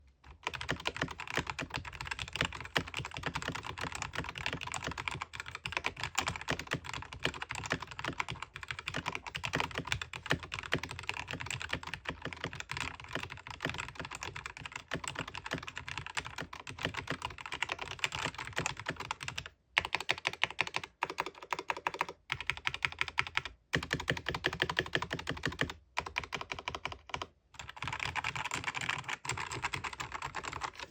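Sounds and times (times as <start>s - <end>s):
mechanical keyboard typing: 0.3s - 30.9s.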